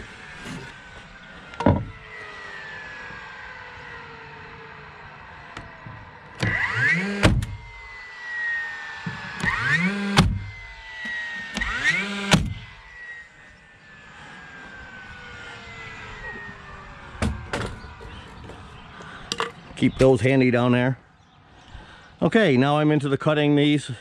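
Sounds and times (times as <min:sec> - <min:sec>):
power nailer whirring and cracking: 0:00.0 - 0:19.2.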